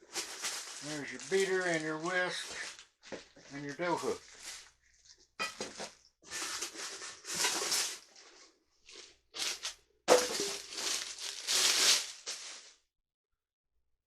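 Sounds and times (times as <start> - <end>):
packaging crinkling and rustling: 0.0 - 12.7.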